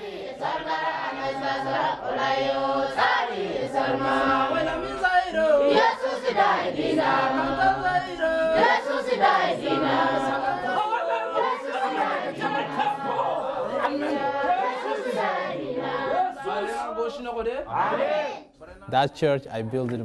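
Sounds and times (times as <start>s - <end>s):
congregation singing: 0.0s - 18.4s.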